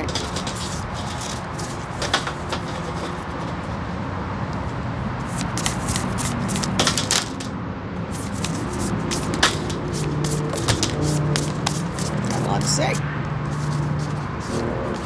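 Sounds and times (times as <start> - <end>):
cards being shuffled: 0.0 - 3.7, 5.2 - 7.5, 8.1 - 15.0.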